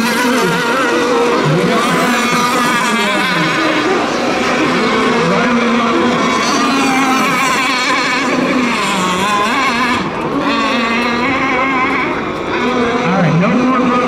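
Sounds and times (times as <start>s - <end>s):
model boat motors whining: 0.0s - 14.0s.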